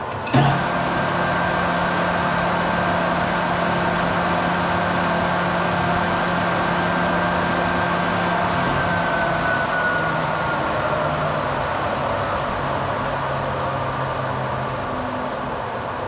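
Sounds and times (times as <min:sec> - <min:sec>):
motor fan whine: 0:00.0 - 0:16.0.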